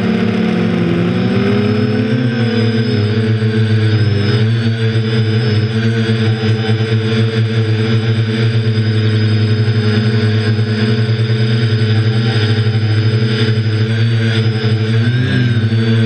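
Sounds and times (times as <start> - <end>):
quadcopter motors humming: 0.0 - 16.0.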